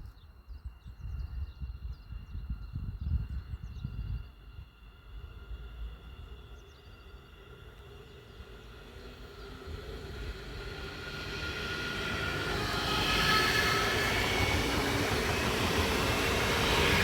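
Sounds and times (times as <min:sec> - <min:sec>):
train running noise: 0:01.3 - 0:17.0.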